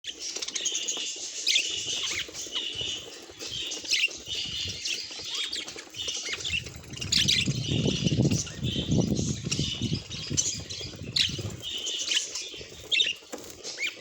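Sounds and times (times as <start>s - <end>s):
budgerigar chirping: 0.0s - 14.0s
wings fluttering: 0.1s - 14.0s.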